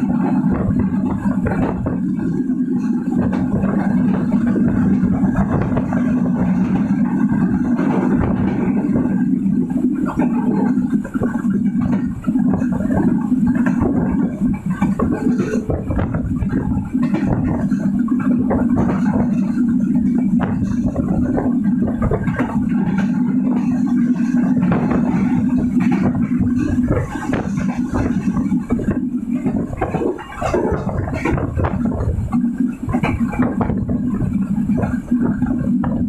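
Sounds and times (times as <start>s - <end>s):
carriage rattling and knocking: 0.0s - 36.0s
train rumbling at speed: 0.0s - 36.0s.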